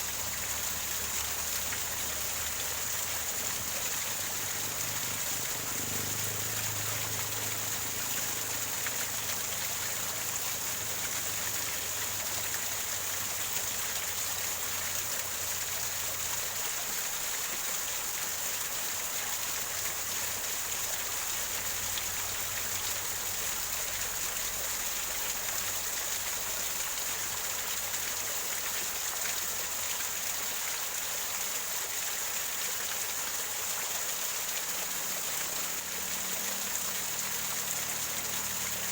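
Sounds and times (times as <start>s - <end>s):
waterfall splashing over rocks: 0.0s - 38.9s.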